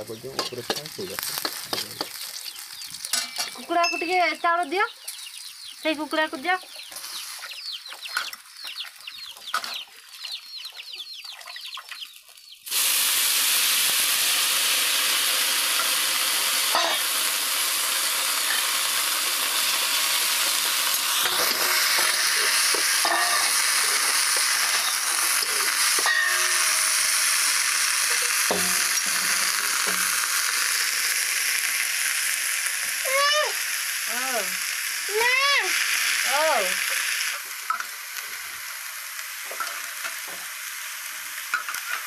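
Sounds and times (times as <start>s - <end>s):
greens frying in hot oil: 0.0s - 42.0s.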